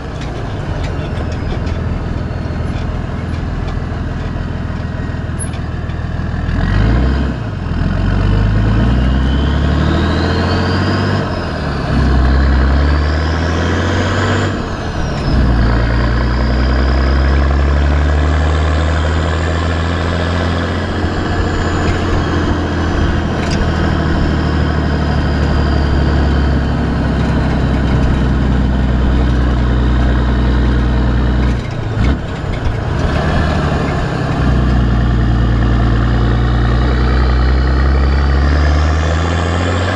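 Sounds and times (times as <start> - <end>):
diesel engine exhaust accelerating: 0.0 - 39.9.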